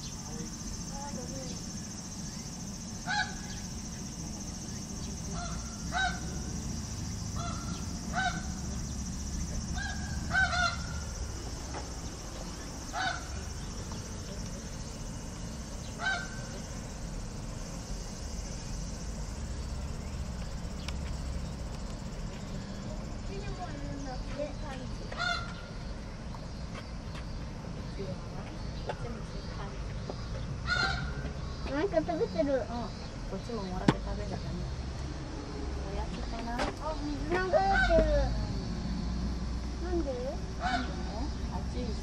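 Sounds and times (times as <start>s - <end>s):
steady low hum: 0.0s - 37.2s.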